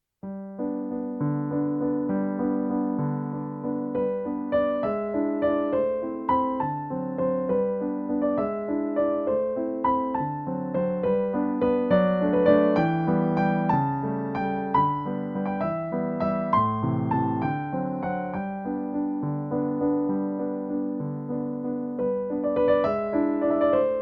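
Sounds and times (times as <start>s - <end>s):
gentle piano melody: 0.2s - 24.0s.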